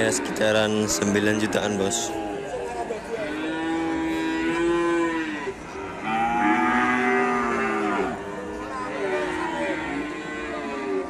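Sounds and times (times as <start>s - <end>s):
cattle mooing: 0.0s - 11.0s.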